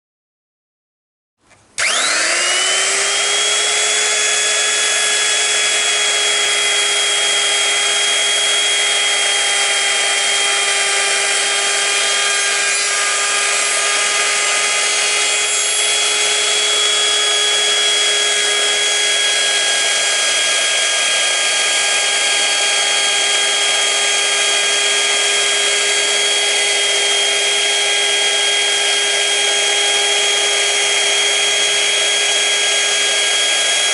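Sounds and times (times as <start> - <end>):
wood router high whine: 1.8 - 33.9.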